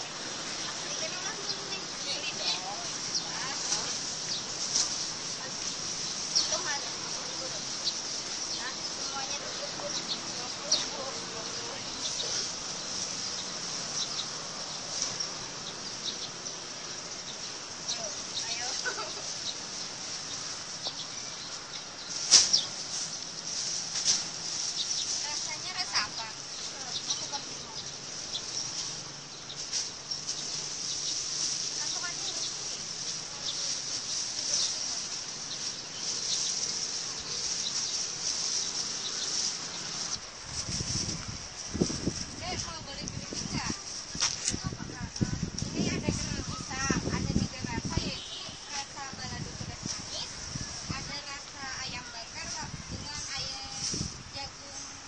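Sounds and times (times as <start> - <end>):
insects shrilling: 0.0 - 52.2
steady high hiss: 0.0 - 55.0.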